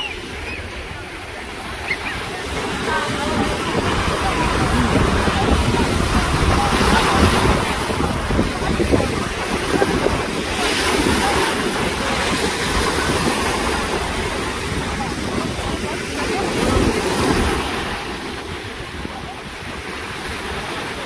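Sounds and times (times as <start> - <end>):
sea waves washing in shallows: 0.0 - 21.0
wind buffeting microphone: 0.0 - 21.0.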